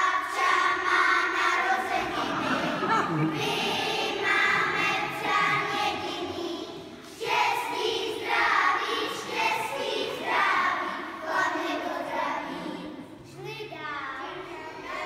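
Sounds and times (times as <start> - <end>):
children singing: 0.0 - 13.2, 14.3 - 15.0.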